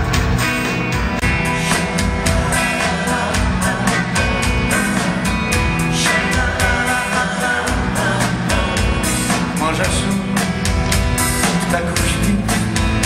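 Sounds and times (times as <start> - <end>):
pop song with drum beat: 0.0 - 13.0.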